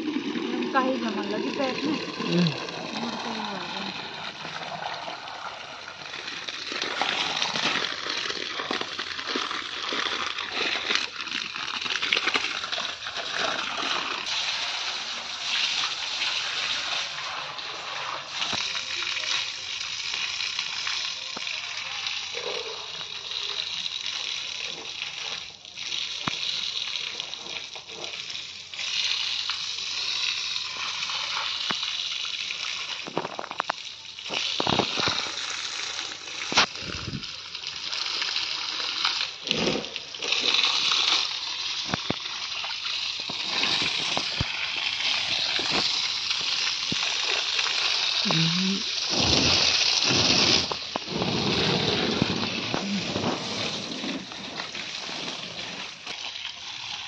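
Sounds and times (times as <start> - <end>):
garden hose water splashing: 0.0 - 57.0.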